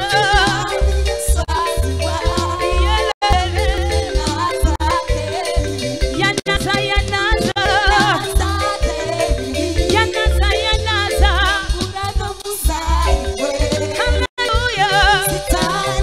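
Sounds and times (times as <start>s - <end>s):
gospel band playing: 0.0s - 16.0s
woman singing: 0.0s - 16.0s.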